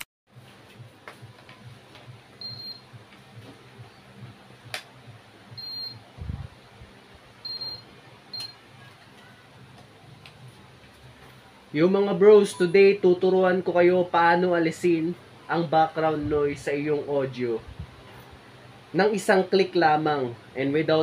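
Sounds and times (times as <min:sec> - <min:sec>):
electric fan humming: 0:00.3 - 0:21.0.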